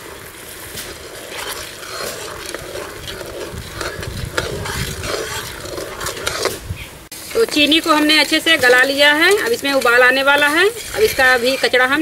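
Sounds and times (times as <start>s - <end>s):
skimmer scraping metal wok: 0.0s - 12.0s
syrup bubbling: 0.0s - 12.0s.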